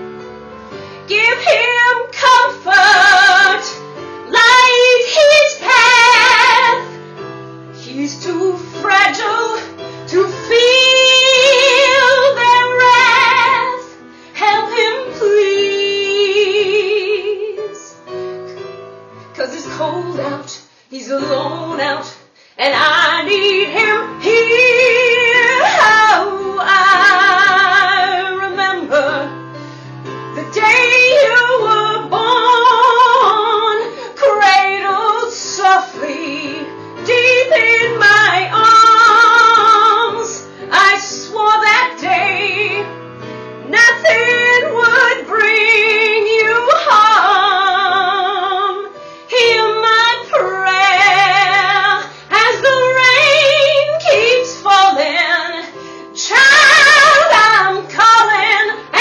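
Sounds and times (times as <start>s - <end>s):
woman singing with vibrato: 1.1s - 6.9s, 7.8s - 17.9s, 19.4s - 29.4s, 30.4s - 42.9s, 43.6s - 59.0s.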